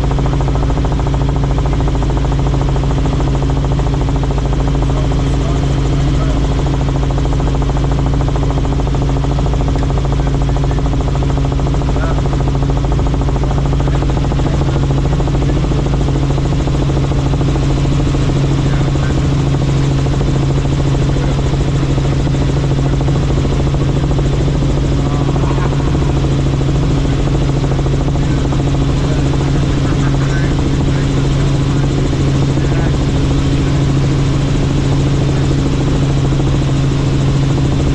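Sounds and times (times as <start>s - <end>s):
helicopter rotor and engine drone: 0.0s - 37.9s.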